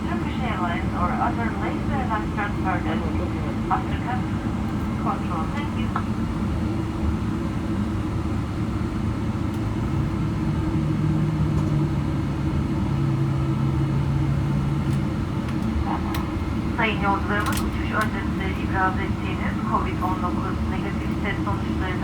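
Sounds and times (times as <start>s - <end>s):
aircraft engines idling: 0.0s - 22.0s.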